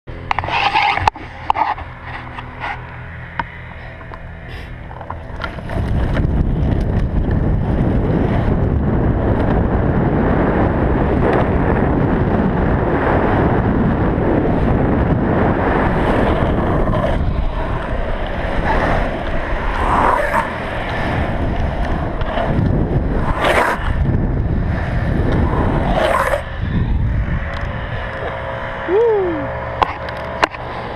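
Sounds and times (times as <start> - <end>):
longboard wheels rolling on asphalt: 0.1 - 30.9
wind buffeting microphone: 0.1 - 30.9.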